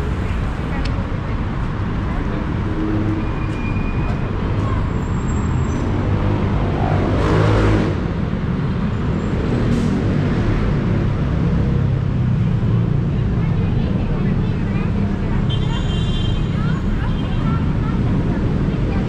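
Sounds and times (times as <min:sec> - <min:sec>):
city road traffic rumble: 0:00.0 - 0:19.0
vehicles passing close by: 0:00.0 - 0:19.0.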